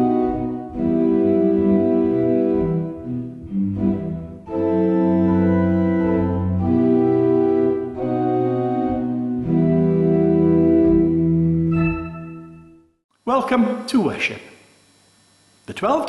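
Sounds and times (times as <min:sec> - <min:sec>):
organ playing sustained chords: 0:00.0 - 0:14.4.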